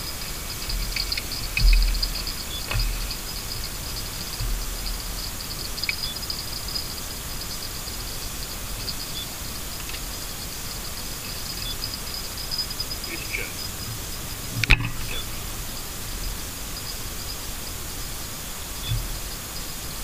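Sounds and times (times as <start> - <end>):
low thumps: 0.0 - 18.2, 18.9 - 19.4
small birds twittering: 0.0 - 20.0
steady hiss: 0.0 - 20.0.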